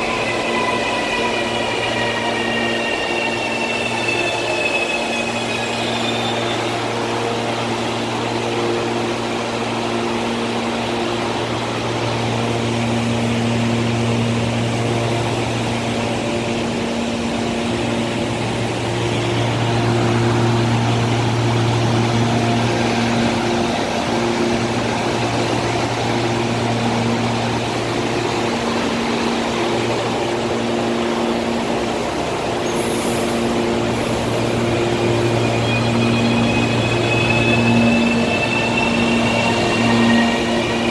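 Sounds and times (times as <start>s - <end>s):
electric train humming: 0.0s - 40.9s.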